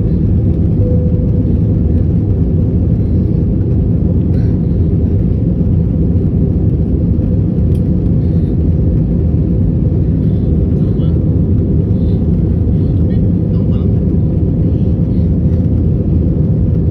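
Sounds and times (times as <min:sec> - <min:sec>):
airliner cabin rumble: 0:00.0 - 0:16.9.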